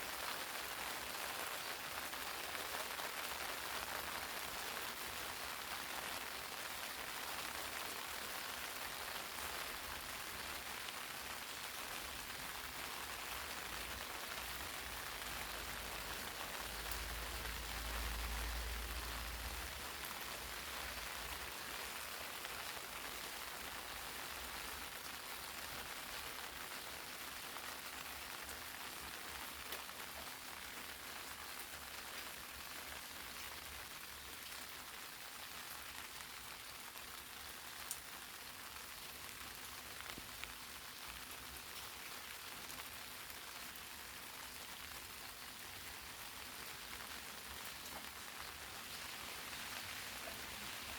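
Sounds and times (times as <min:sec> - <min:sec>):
rain pattering on leaves: 0:00.0 - 0:50.9.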